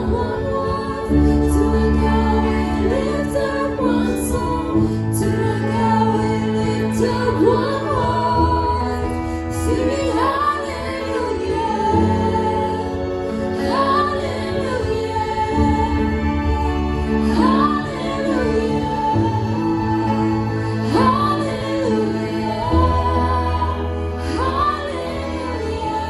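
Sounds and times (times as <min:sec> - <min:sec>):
woman singing slow melody: 0:00.0 - 0:26.0.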